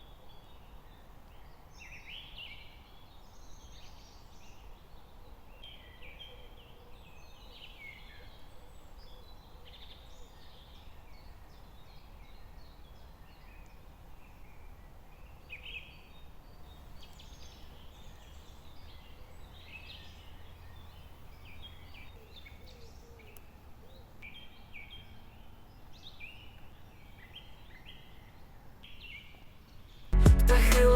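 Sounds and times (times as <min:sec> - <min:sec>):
small birds chirping: 0:00.0 - 0:30.2.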